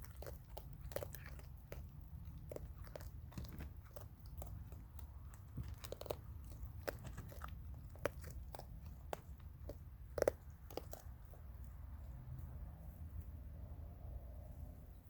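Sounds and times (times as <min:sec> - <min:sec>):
raccoons chewing hard food: 0:00.0 - 0:12.9
steady low rumble: 0:00.0 - 0:15.0.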